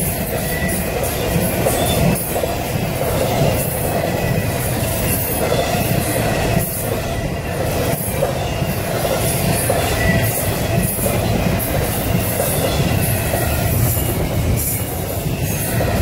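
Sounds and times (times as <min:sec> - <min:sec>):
freight train wheels clattering: 0:00.0 - 0:16.0.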